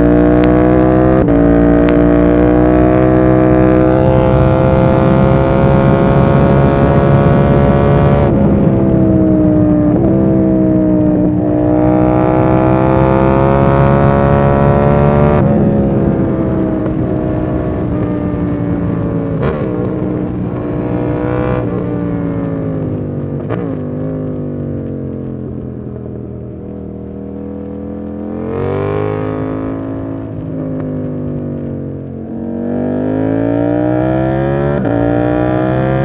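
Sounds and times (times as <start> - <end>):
motorcycle engine revving: 0.0 - 25.5, 26.5 - 36.0.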